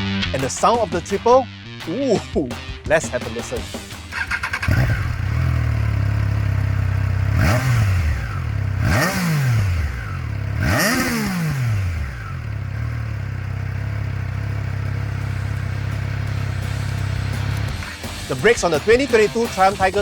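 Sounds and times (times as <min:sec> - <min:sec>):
motorcycle engine idling and revving: 0:02.6 - 0:20.0.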